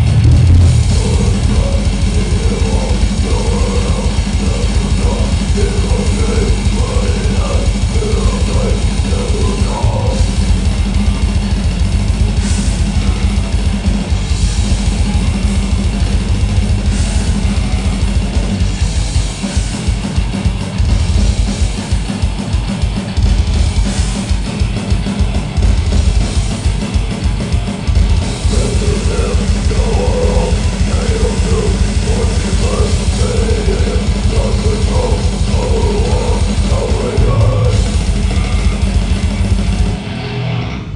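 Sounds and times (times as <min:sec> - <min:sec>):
fast drumming and cymbals: 0:00.0 - 0:40.1
distorted guitar riffing: 0:00.0 - 0:40.9
rapid bass drum strokes: 0:00.0 - 0:40.9.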